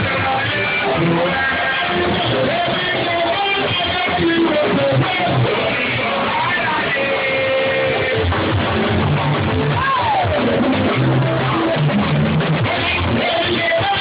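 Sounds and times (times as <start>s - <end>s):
voices singing: 0.0s - 8.8s, 9.6s - 14.0s
bass line: 0.0s - 14.0s
electric guitar: 0.0s - 14.0s.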